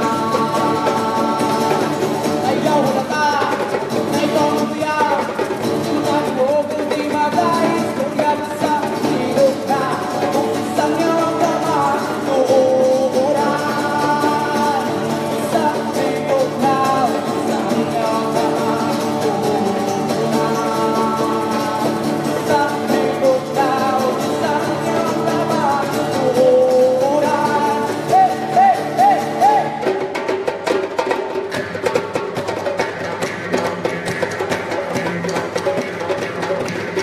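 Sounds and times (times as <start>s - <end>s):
person singing: 0.0s - 30.0s
hand drum: 0.0s - 37.0s
strummed acoustic guitar: 0.0s - 37.0s.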